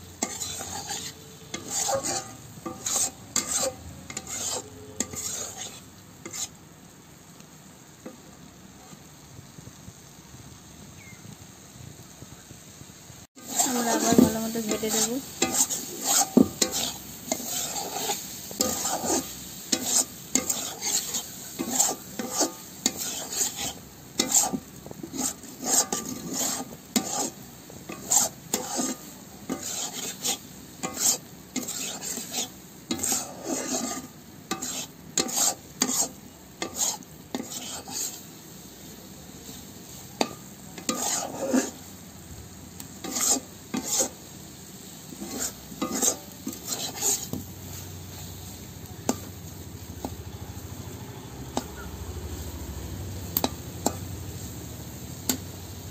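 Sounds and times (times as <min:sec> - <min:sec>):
spatula scraping a pan: 0:00.0 - 0:06.6, 0:08.0 - 0:09.2, 0:13.4 - 0:55.9
meat sizzling in oil: 0:00.0 - 0:55.9.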